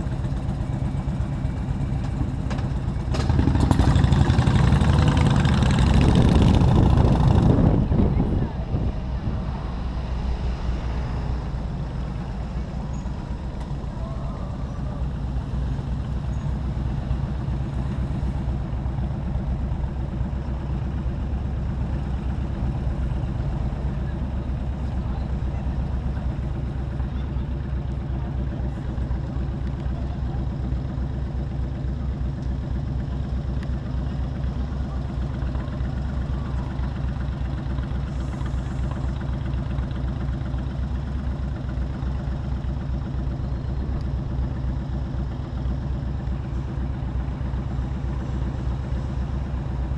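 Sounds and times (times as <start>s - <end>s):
motorcycle engine running at low revs: 0.0s - 49.9s.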